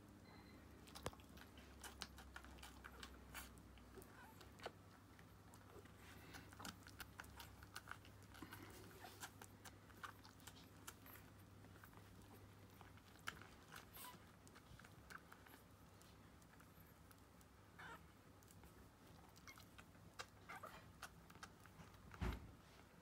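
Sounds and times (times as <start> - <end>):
faint low hum: 0.0 - 23.0
puppies suckling wet clicks: 0.7 - 22.2.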